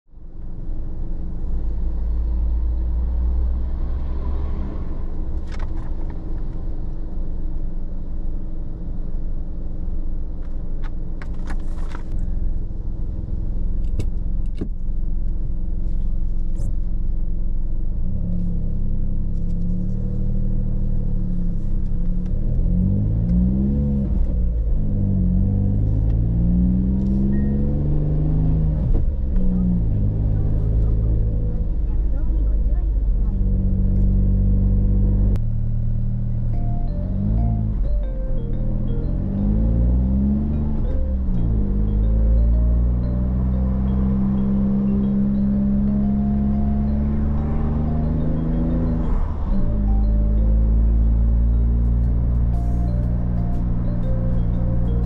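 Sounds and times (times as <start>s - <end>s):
car engine idling and revving: 0.1s - 55.0s.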